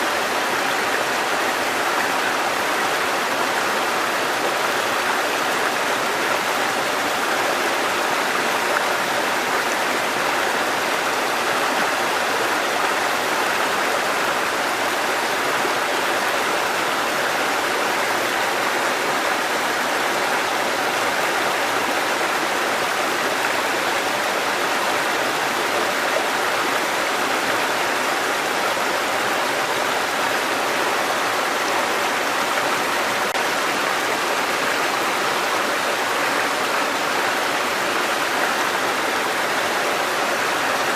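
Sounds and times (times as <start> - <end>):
stream water rushing and splashing: 0.0 - 40.9.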